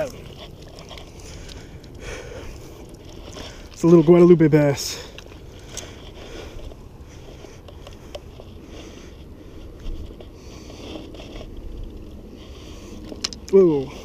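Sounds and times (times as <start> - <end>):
rustling and clicks of handling: 0.0 - 13.9.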